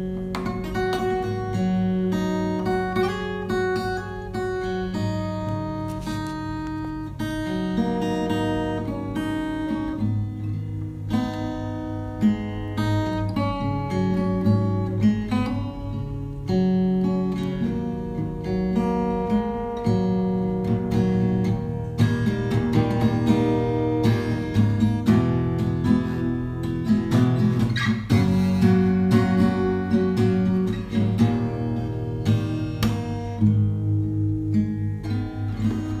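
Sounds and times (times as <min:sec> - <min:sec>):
plucked guitar background music: 0:00.0 - 0:36.0.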